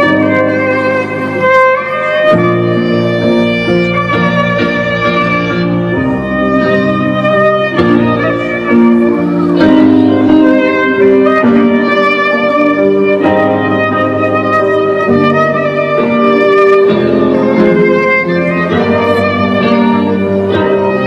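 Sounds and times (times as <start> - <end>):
violin melody: 0.0 - 21.0.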